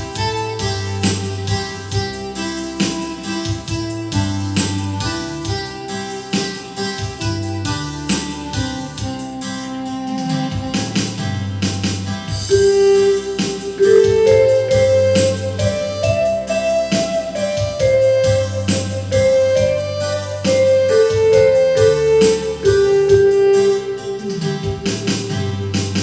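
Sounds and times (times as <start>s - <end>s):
bass line: 0.0s - 26.0s
drum machine rhythm: 0.0s - 26.0s
electronic keyboard melody: 0.0s - 26.0s.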